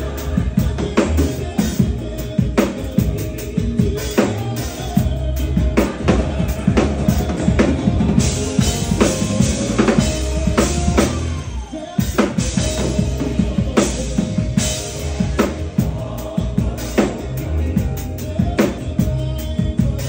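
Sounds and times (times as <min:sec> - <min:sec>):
drum kit played hard: 0:00.0 - 0:20.0.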